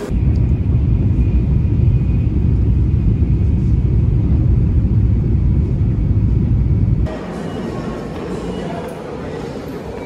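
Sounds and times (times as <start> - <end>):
train carriage rumble at speed: 0.0 - 10.0.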